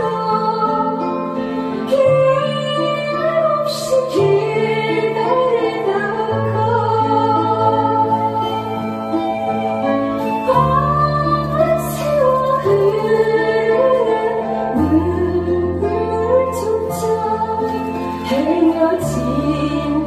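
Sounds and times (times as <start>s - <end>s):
instrumental accompaniment: 0.0s - 20.0s
woman singing into a microphone: 0.0s - 20.0s.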